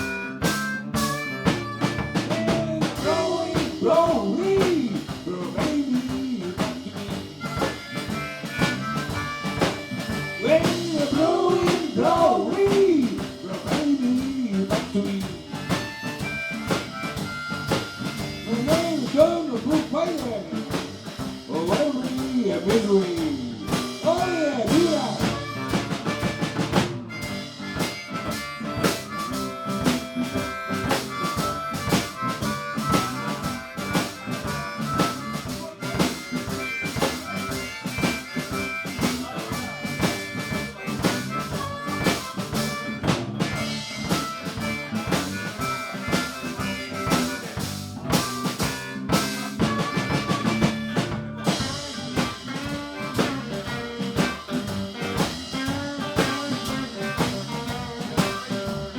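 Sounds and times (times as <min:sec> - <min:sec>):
drum kit steady beat: 0:00.0 - 0:58.9.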